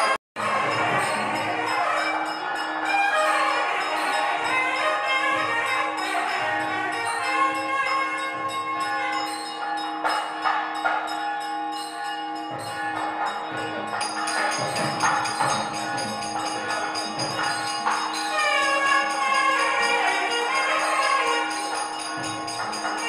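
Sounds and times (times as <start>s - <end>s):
temple bells ringing rapidly: 0.0s - 23.0s.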